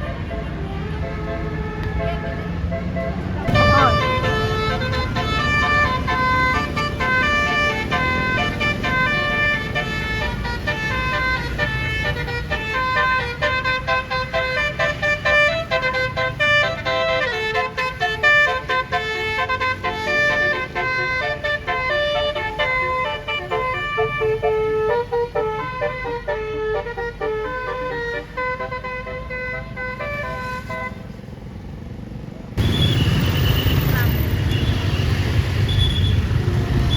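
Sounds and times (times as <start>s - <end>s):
musical bus horn tune: 0.0s - 31.2s
bus engine rumble: 0.0s - 36.9s.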